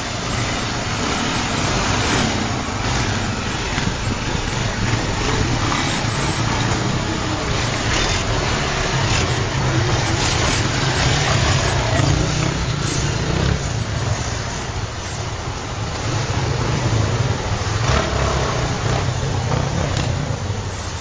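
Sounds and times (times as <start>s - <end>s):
street noise: 0.0s - 21.0s
vehicle engine running: 0.0s - 21.0s.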